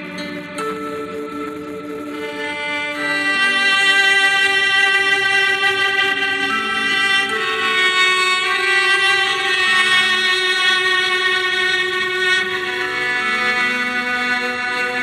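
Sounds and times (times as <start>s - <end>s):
bowed violin-like melody: 0.0s - 15.0s.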